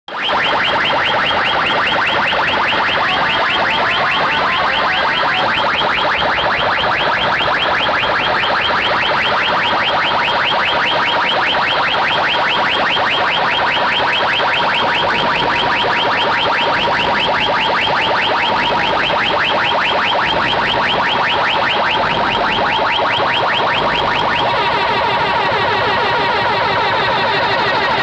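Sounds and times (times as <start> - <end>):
rapid electronic chirps: 0.1 - 28.0.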